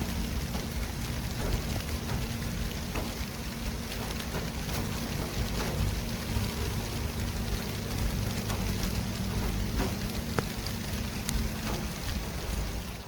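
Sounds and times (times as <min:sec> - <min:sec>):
rain-like hiss: 0:00.0 - 0:13.0
traffic rumble: 0:00.0 - 0:13.0.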